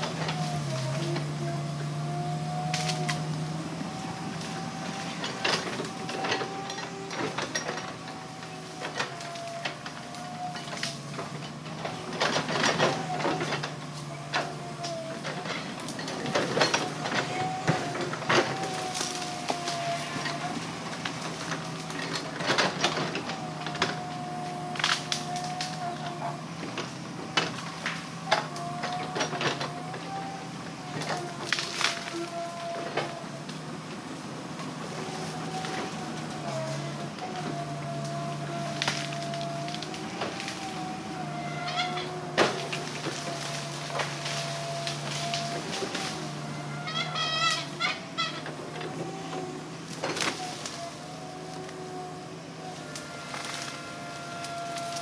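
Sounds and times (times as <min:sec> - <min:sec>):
diesel engine drone with whine: 0:00.0 - 0:55.0.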